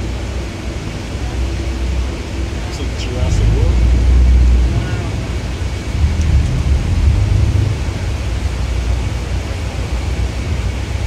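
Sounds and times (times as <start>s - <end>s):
boat motor rumble: 0.0s - 11.0s
wind on microphone: 0.0s - 11.0s.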